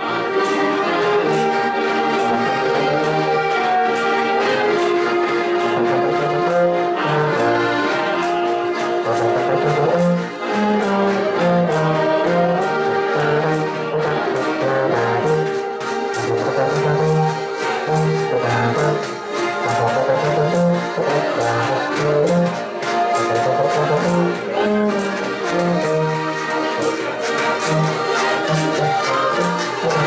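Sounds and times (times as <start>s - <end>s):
baritone horn bass line: 0.0s - 30.0s
clarinet: 0.0s - 30.0s
folk dance music on accordions: 0.0s - 30.0s.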